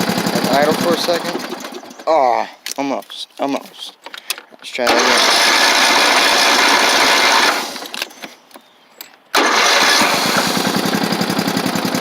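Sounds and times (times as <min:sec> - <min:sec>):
lawn tractor engine cranking: 0:00.0 - 0:08.3, 0:09.3 - 0:12.0.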